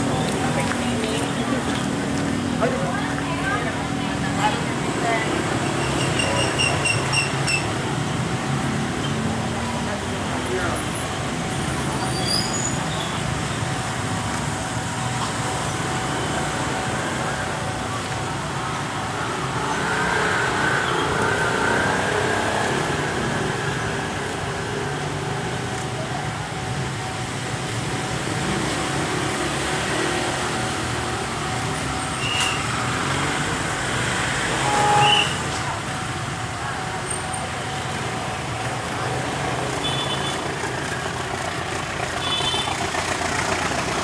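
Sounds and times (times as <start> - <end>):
road traffic noise: 0.0 - 44.0.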